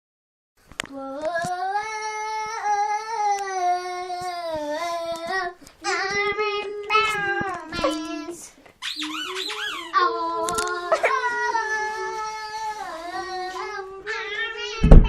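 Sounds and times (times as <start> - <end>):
child singing a long note: 0.9 - 8.5, 9.2 - 15.0.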